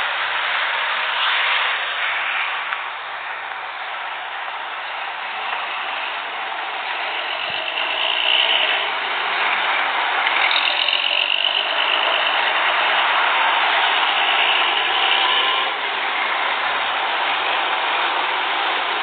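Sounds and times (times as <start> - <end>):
bus diesel engines running: 0.0 - 19.0.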